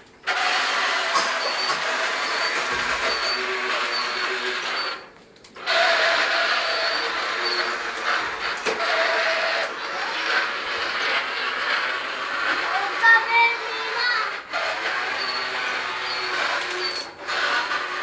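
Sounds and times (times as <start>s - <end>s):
toy truck motors whirring: 0.1s - 18.0s.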